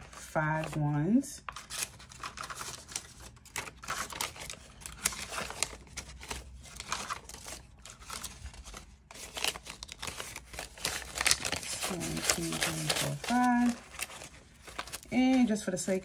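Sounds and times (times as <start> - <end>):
paper bills rustling: 1.5 - 16.0.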